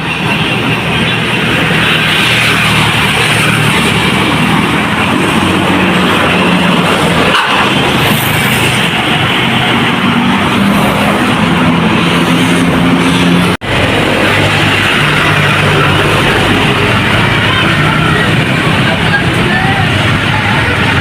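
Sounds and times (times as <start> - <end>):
large engine low hum: 0.0 - 21.0
loud tyre and road noise: 0.0 - 21.0.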